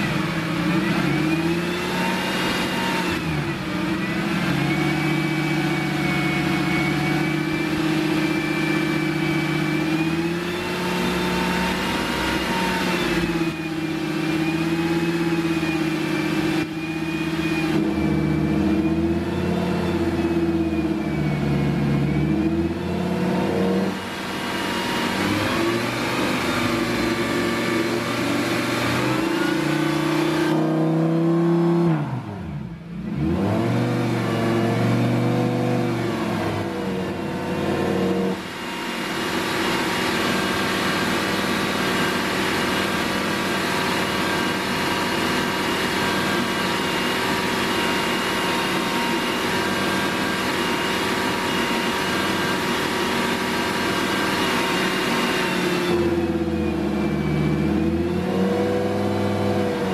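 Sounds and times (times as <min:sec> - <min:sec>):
sports car engine revving and idling: 0:00.0 - 0:59.9.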